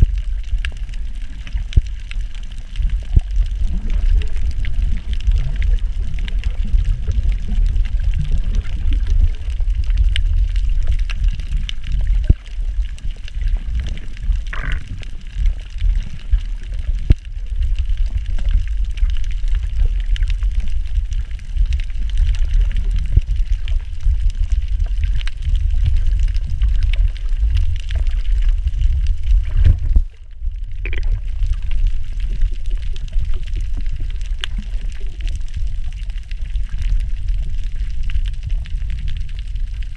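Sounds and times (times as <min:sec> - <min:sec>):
faint underwater clicks: 0:00.0 - 0:39.9
underwater water rumbling wash: 0:00.0 - 0:39.9.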